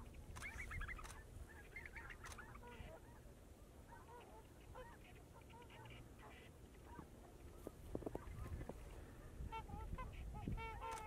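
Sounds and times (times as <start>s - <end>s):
geese honking: 0.6s - 11.0s.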